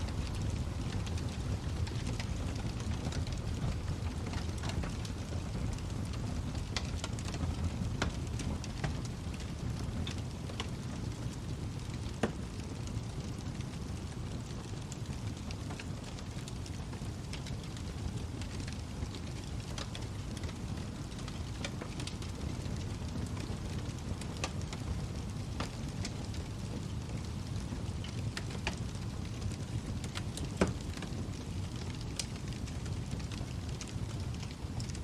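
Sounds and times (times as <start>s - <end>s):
fire crackling and popping: 0.0s - 35.0s
low rumble of flames: 0.0s - 35.0s.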